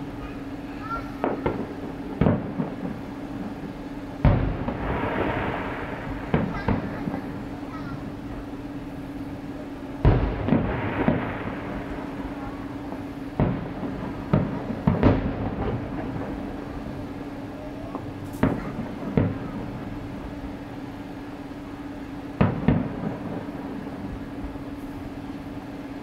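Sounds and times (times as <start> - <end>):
fireworks booming: 0.0 - 26.0
fireworks crackling: 0.0 - 26.0
steady low hum: 0.0 - 26.0.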